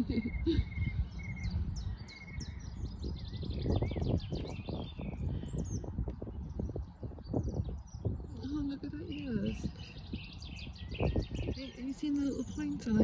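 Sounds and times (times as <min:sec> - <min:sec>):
birds singing and chirping: 0:00.0 - 0:13.0
low outdoor rumble: 0:00.0 - 0:13.0.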